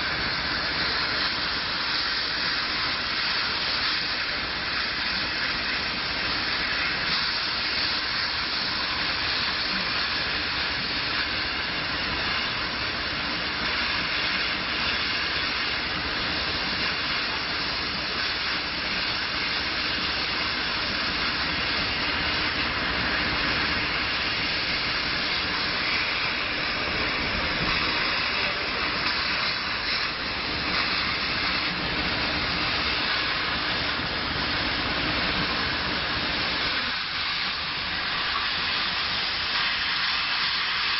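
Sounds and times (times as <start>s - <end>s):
machine running noise: 0.0s - 40.9s
steady hiss of air: 0.0s - 40.9s.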